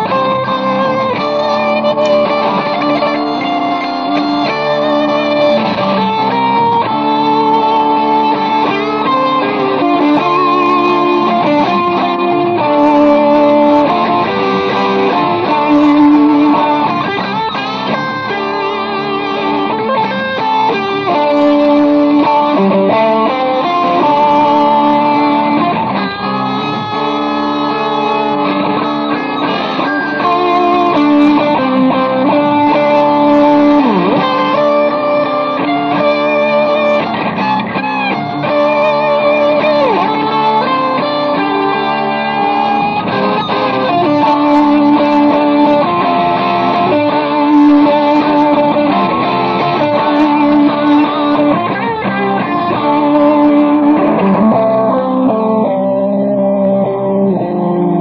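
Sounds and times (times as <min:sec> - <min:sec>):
electric guitar hard rock: 0:00.0 - 0:58.0.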